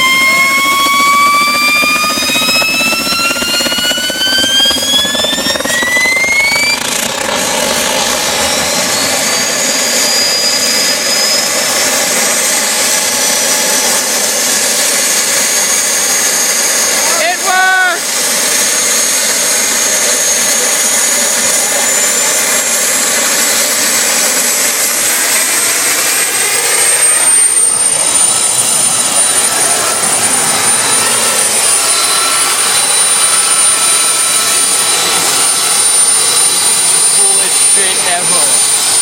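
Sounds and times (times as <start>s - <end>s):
jet engine roaring and whining: 0.0s - 39.0s.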